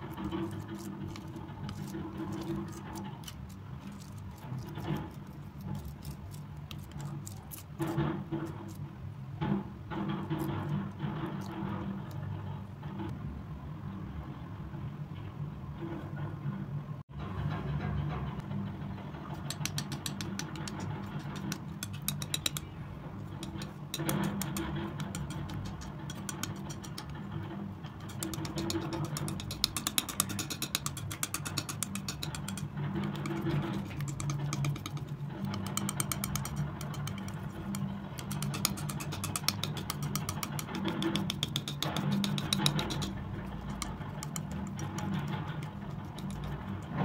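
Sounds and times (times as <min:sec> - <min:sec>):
palette knife scraping paint: 0:00.0 - 0:08.8, 0:10.0 - 0:12.4, 0:19.2 - 0:47.0.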